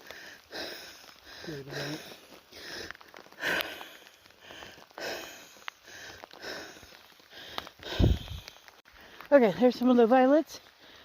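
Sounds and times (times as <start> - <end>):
person breathing hard: 0.0 - 9.3, 10.8 - 11.0.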